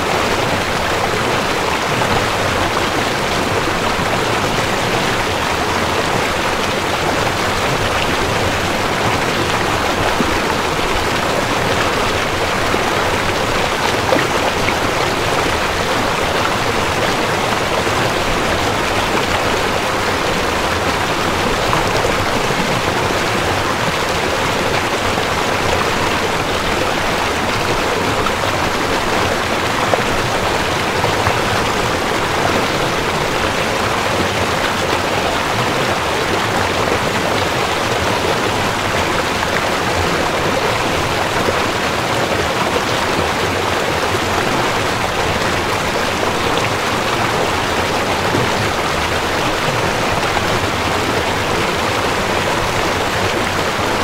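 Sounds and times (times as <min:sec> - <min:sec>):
flowing stream: 0:00.0 - 0:54.0.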